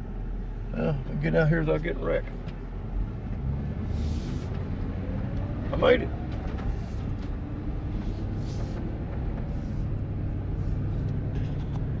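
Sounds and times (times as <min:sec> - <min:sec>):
road noise: 0:00.0 - 0:12.0
van engine rumble: 0:00.0 - 0:12.0.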